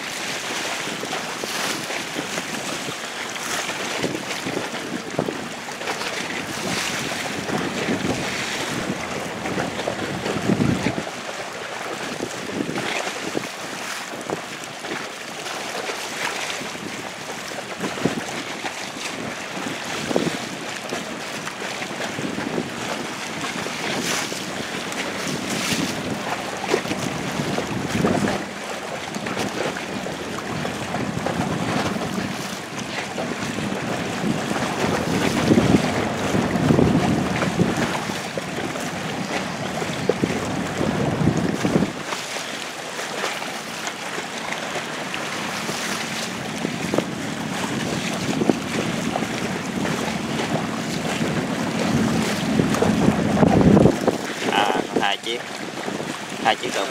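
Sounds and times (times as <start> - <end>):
water slapping: 0.0 - 56.9
waves splashing around boat: 0.0 - 56.9
wind buffeting microphone: 0.0 - 56.9.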